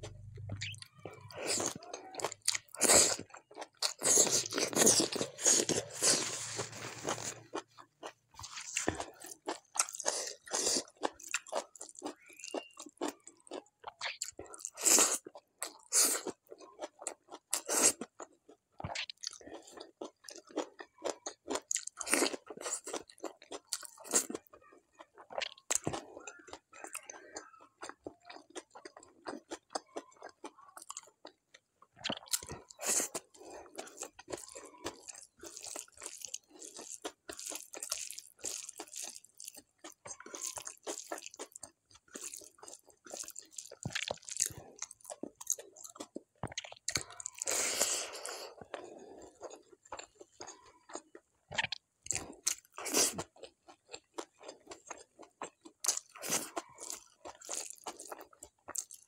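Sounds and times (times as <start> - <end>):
chewing crunchy food: 0.0 - 59.0.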